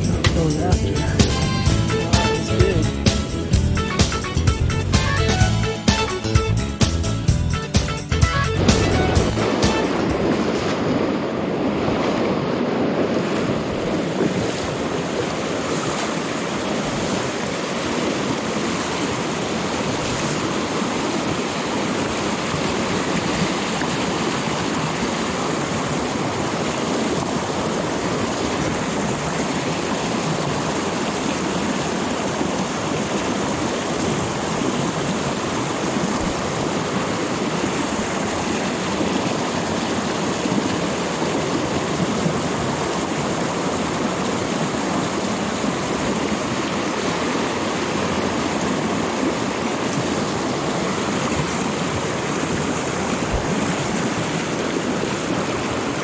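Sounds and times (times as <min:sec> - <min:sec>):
stream flowing water: 0:08.9 - 0:56.0.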